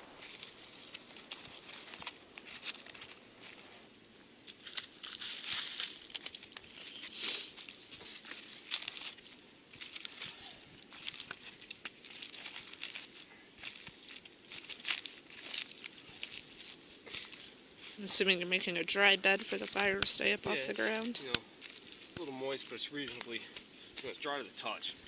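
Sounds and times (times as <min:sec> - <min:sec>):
dry leaves and bark rustling: 0:00.0 - 0:25.0.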